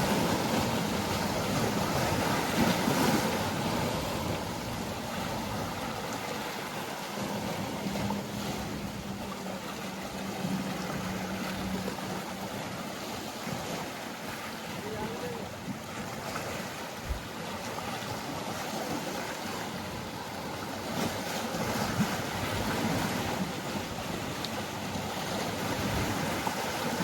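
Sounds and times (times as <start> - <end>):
boat engine humming: 0.0 - 27.0
waves washing against shore: 0.0 - 27.0
wind on microphone: 0.0 - 27.0.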